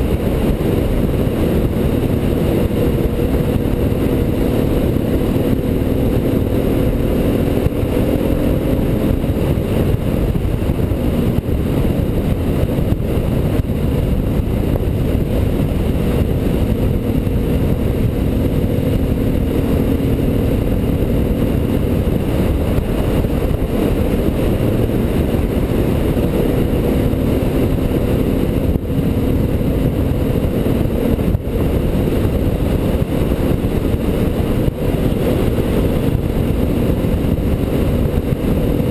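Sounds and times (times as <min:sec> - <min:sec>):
motorcycle engine cruising: 0:00.0 - 0:38.9
wind rush on microphone: 0:00.0 - 0:38.9.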